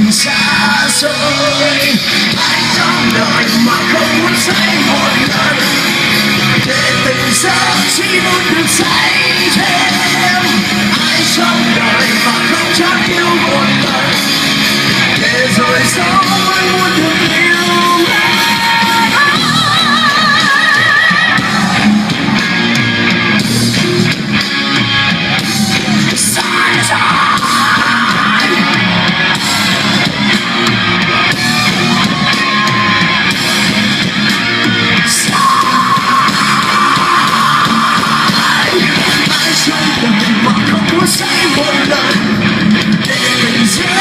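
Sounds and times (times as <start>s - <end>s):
bass guitar: 0.0s - 44.0s
drums: 0.0s - 44.0s
electric guitar lead notes: 0.0s - 44.0s.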